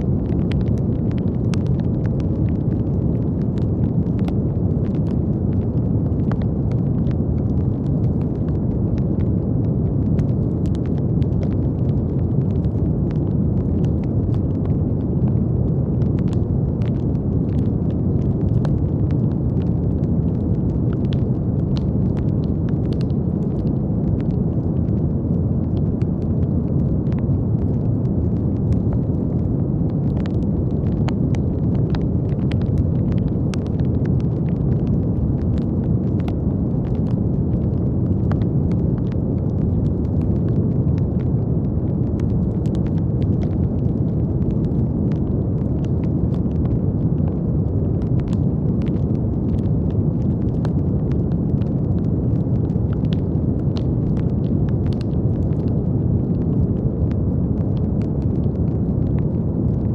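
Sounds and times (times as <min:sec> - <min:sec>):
faint crackling clicks: 0:00.1 - 0:59.8.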